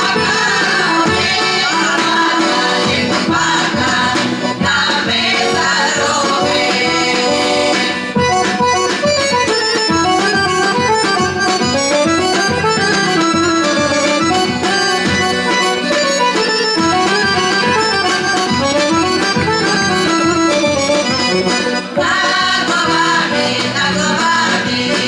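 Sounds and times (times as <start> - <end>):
accordion playing folk tune: 0.0 - 25.0
drum beating: 0.0 - 25.0.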